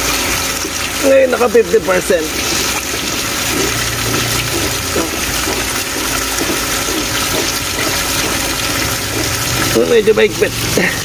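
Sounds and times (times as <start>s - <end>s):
water splashing onto concrete: 0.0s - 11.0s.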